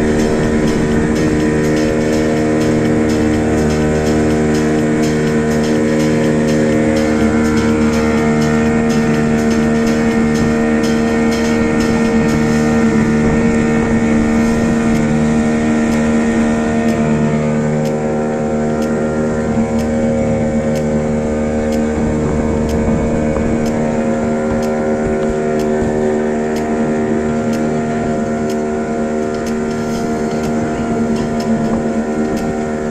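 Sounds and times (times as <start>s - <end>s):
motorboat engine droning: 0.0s - 32.9s.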